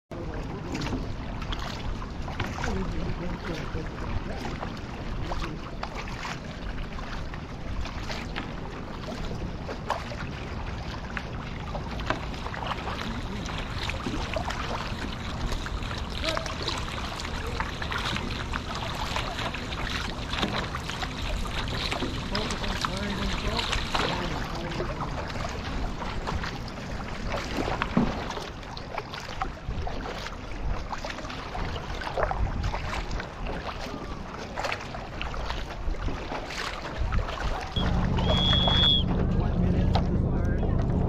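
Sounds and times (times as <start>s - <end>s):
paddle blades splashing: 0.1s - 41.0s
water rushing and splashing: 0.1s - 41.0s.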